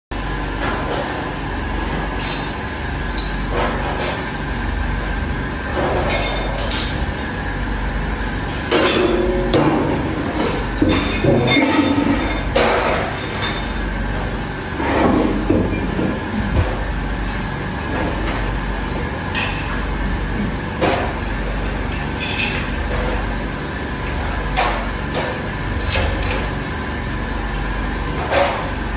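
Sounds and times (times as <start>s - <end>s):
mechanical noise with low hum: 0.1s - 28.9s.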